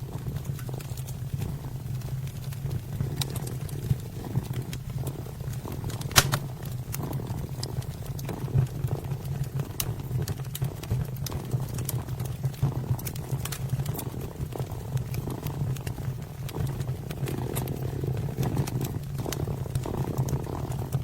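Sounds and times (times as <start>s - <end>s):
wood fire crackling: 0.0s - 21.0s
kitten purring: 0.1s - 21.0s.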